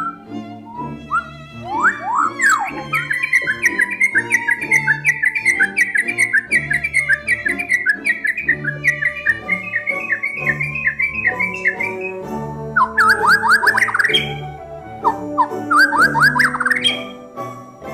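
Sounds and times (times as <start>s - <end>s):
bird singing whistled notes: 0.0s - 17.2s.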